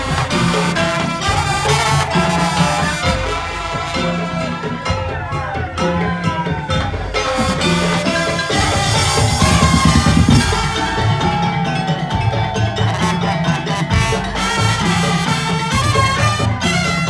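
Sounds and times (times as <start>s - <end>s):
driving drum beat: 0.0s - 17.0s
melodic percussion: 0.0s - 17.0s.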